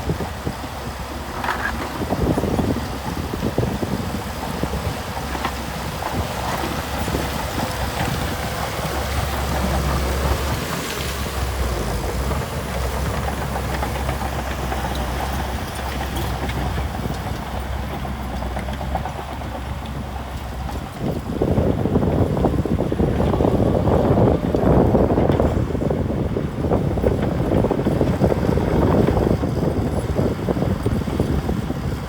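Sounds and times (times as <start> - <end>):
diesel engine rumbling: 0.0 - 32.0.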